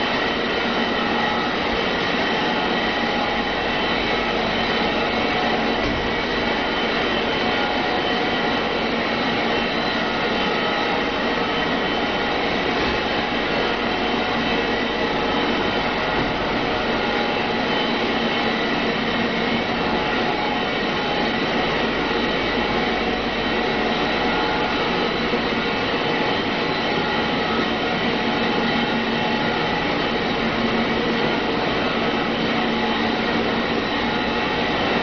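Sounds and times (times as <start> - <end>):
machinery drone with whining tones: 0.0 - 35.0.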